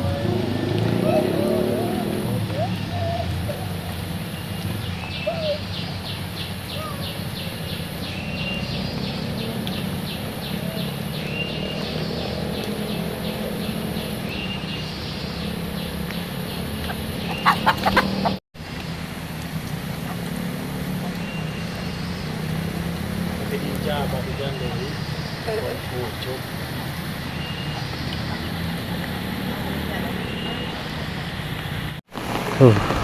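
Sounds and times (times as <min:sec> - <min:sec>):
steady rain falling: 0:00.0 - 0:16.8, 0:18.6 - 0:33.0
bird calls: 0:00.8 - 0:18.4, 0:19.6 - 0:31.9.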